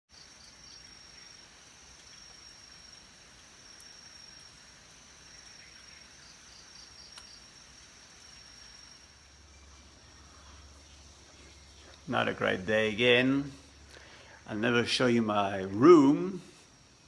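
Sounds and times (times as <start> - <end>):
cricket chirps: 0.1 - 17.0
insects trilling: 0.1 - 17.0.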